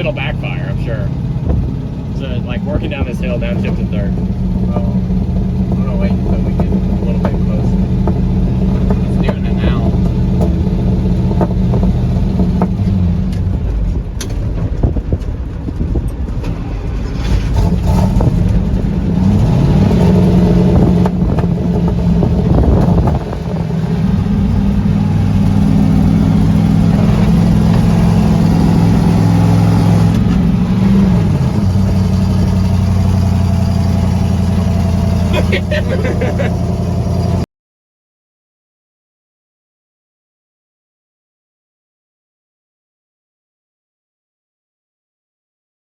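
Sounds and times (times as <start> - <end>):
truck engine revving: 0.0 - 37.4.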